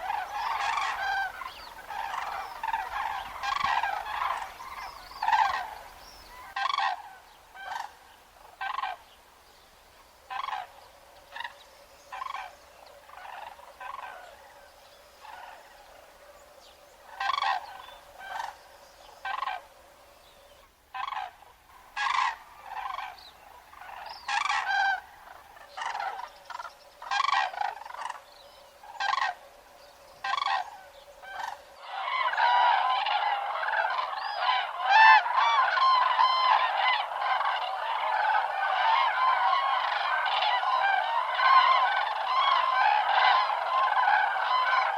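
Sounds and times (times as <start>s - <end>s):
cranes trumpeting calls: 0.0s - 9.2s, 10.2s - 44.9s.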